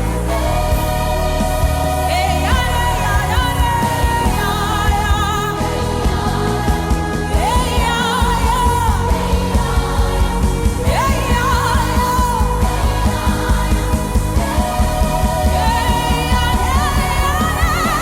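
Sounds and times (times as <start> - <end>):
steady music beat: 0.0 - 18.0.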